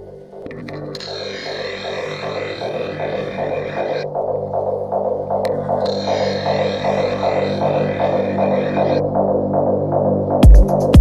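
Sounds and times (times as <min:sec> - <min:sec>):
electronic music with low drone: 0:00.0 - 0:11.0.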